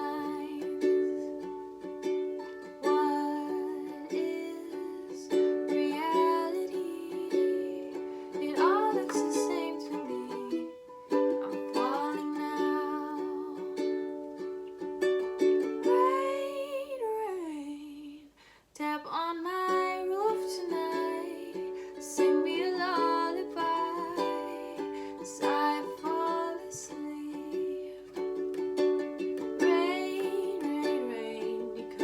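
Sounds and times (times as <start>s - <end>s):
woman singing: 0.0s - 1.6s, 2.3s - 14.4s, 15.6s - 32.0s
ukulele strumming: 0.0s - 17.7s, 19.4s - 32.0s.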